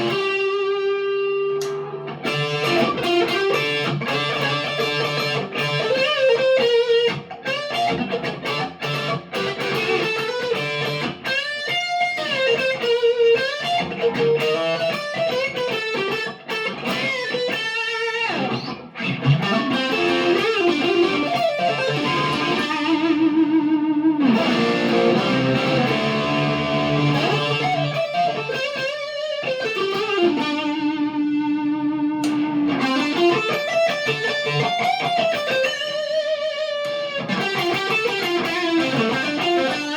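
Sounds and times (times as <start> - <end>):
electric guitar lead lines: 0.0 - 39.9.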